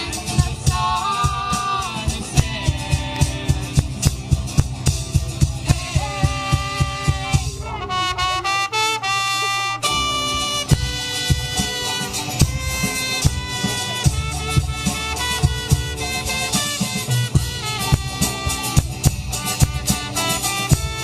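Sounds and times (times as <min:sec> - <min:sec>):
steady drum beat: 0:00.0 - 0:08.6, 0:09.8 - 0:21.0
live band playing folk-rock: 0:00.0 - 0:21.0.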